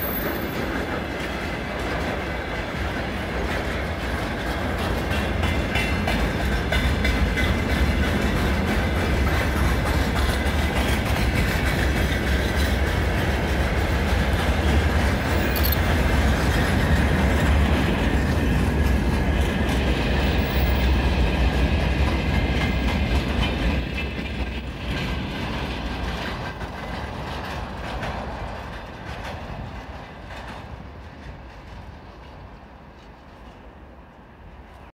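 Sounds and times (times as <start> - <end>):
train wheels clattering over rail joints: 0.0 - 33.6
low train rumble: 0.0 - 34.9.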